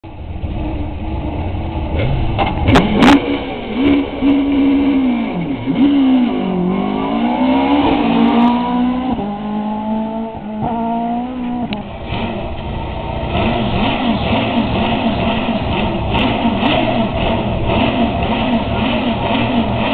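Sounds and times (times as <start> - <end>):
car engine accelerating: 0.1 - 19.9.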